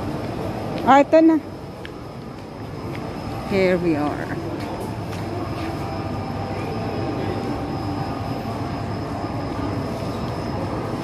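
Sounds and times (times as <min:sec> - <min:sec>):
shopping mall hum and rumble: 0:00.0 - 0:11.0.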